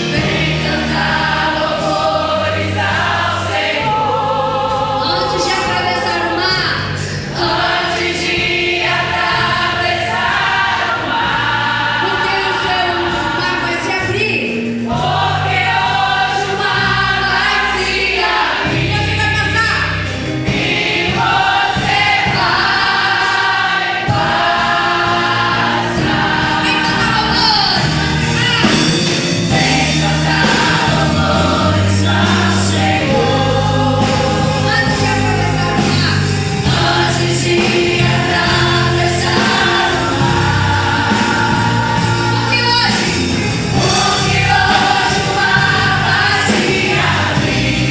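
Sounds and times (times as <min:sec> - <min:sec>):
beat and bass line: 0:00.0 - 0:23.3, 0:24.1 - 0:47.9
choir singing gospel song: 0:00.0 - 0:47.9.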